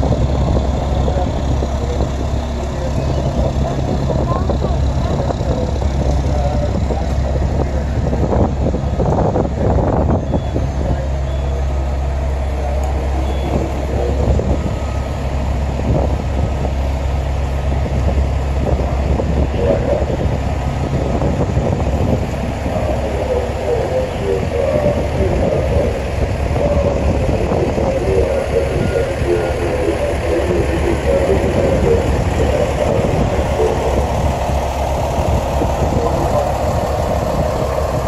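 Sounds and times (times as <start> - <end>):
diesel engine humming: 0.0 - 38.0.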